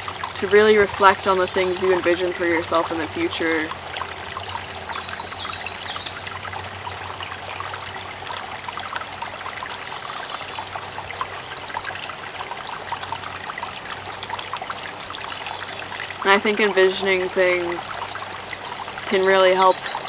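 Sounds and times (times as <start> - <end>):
creek babbling over rocks: 0.0 - 20.0.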